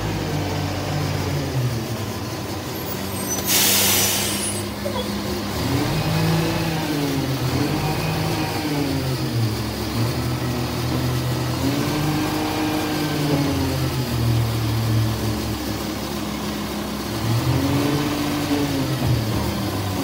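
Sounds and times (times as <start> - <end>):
truck diesel engine revving: 0.0 - 20.0.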